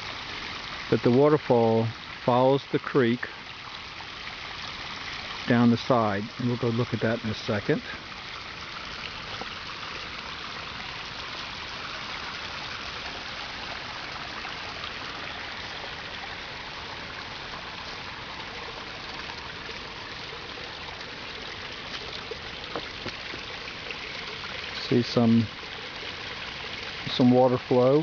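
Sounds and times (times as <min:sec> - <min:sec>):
water running over rocks: 0:00.0 - 0:28.0.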